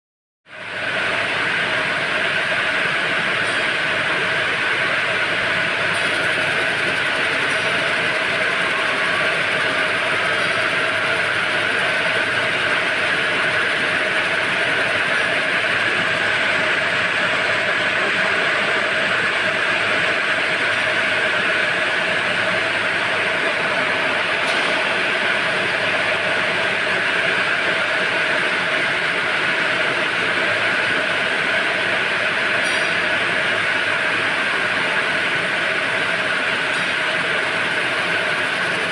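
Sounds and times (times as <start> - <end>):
loom machines weaving: 2.1 - 38.9.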